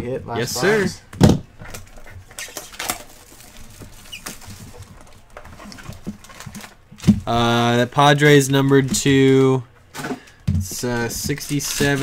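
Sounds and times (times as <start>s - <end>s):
rustling of cardboard and plastic: 1.2s - 12.0s.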